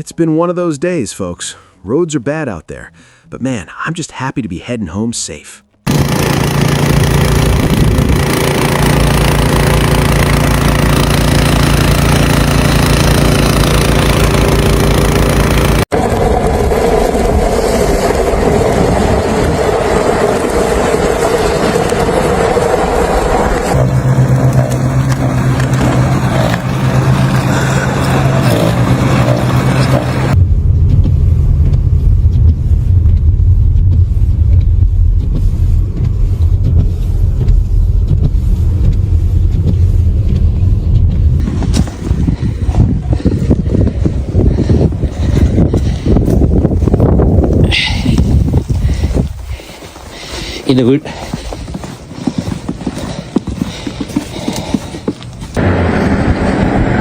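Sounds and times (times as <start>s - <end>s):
vehicle engines running: 5.7s - 57.0s.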